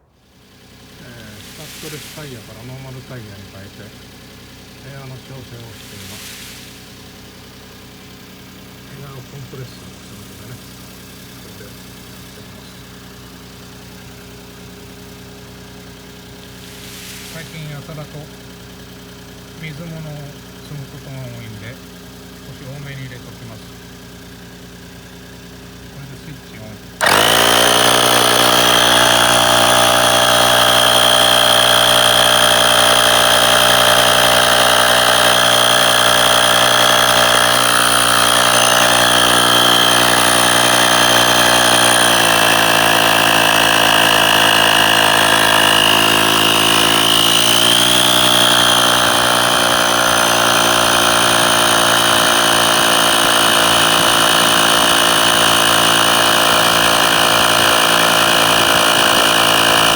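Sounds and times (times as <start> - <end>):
electric air compressor running: 0.0 - 59.9.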